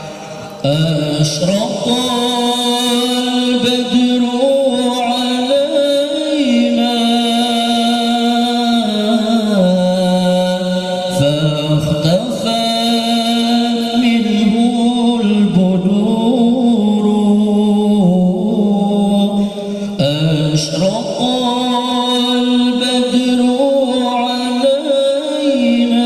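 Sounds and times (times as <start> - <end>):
man reciting melodic chant: 0.0 - 26.0.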